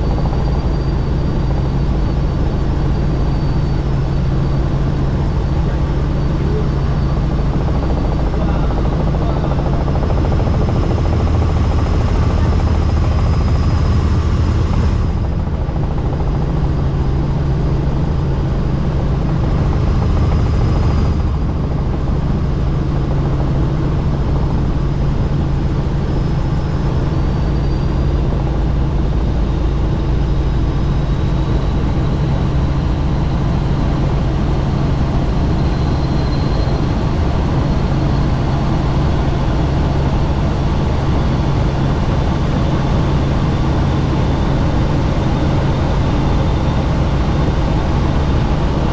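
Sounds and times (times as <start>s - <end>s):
helicopter rotor and engine noise: 0.0s - 48.9s.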